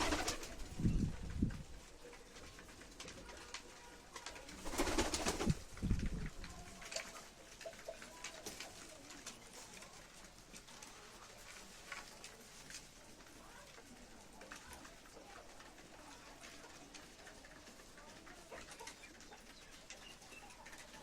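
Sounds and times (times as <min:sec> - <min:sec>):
light clicks and rustles: 0:01.2 - 0:04.7, 0:05.7 - 0:21.0.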